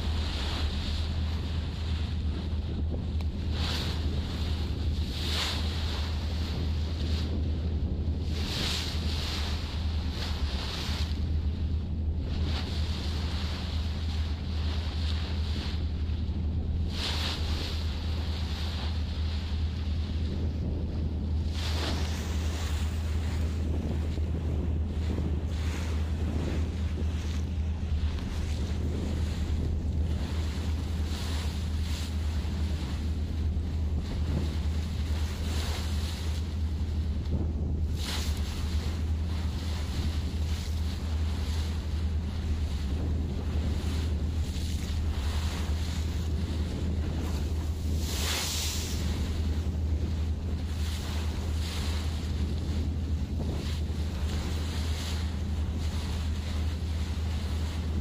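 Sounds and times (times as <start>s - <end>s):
rushing sea water: 0.0s - 58.0s
ship engine drone: 0.0s - 58.0s
steady low rumble: 0.0s - 58.0s
waves washing past: 0.0s - 58.0s
wind buffeting microphone: 0.0s - 58.0s.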